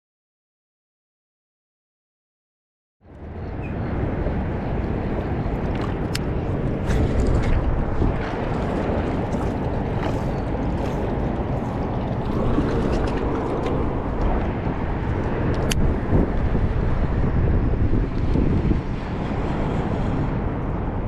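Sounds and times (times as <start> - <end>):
wind buffeting microphone: 3.0 - 21.0.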